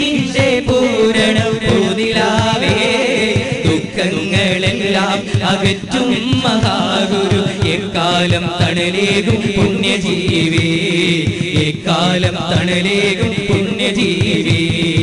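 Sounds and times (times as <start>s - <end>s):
male voices singing: 0.0s - 15.0s
steady percussion beat: 0.0s - 15.0s.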